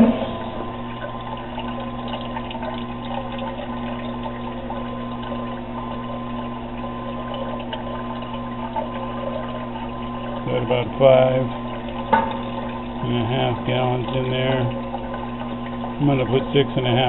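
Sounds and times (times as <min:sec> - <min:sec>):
electric pump humming: 0:00.0 - 0:17.0
water splashing into kettle: 0:00.0 - 0:17.0.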